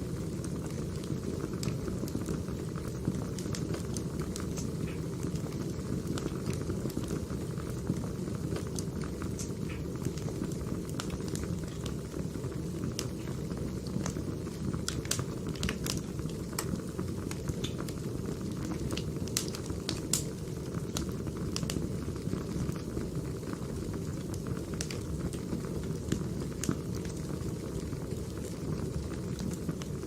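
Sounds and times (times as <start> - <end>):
fire rumbling: 0.0 - 30.0
logs crackling and popping: 0.1 - 30.0.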